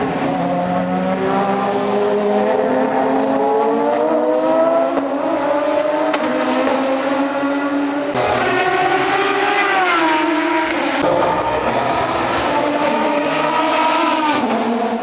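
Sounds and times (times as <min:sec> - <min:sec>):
race car engines accelerating: 0:00.0 - 0:15.0.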